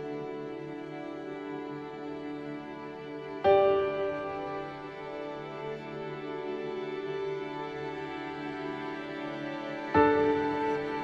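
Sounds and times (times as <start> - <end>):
slow sustained instrumental music: 0.0 - 11.0.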